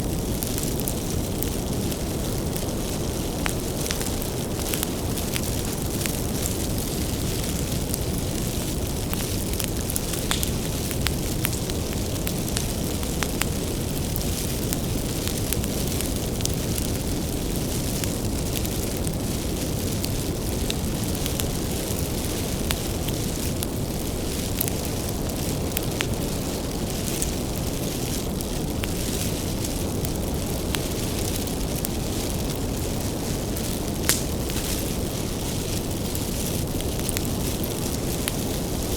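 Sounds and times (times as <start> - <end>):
burning wood crackling: 0.0 - 38.9
low rumble of flame: 0.0 - 38.9.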